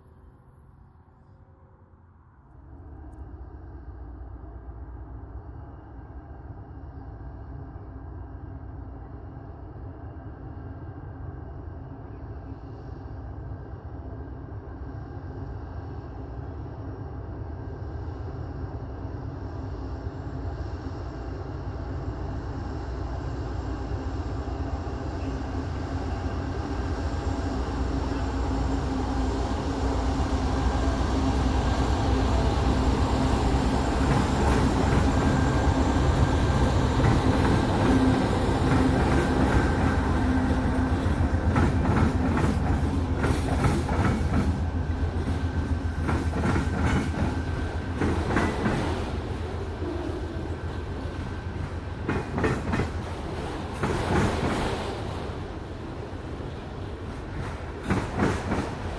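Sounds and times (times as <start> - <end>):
diesel train passing: 0.0 - 58.9.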